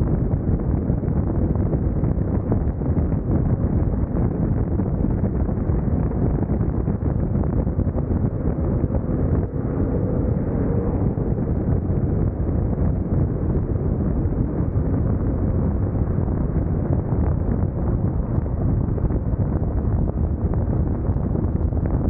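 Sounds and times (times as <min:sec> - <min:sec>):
wind rush on microphone: 0:00.0 - 0:22.0.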